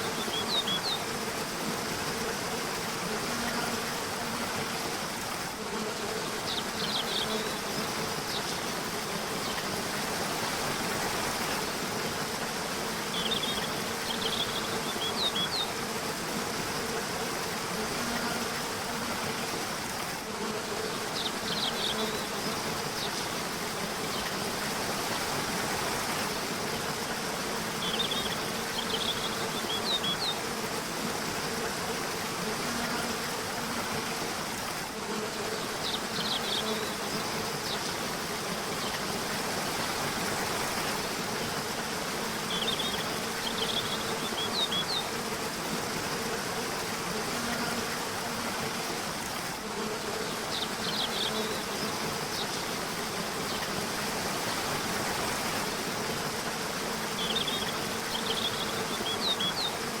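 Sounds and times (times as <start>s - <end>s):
river running: 0.0s - 60.0s.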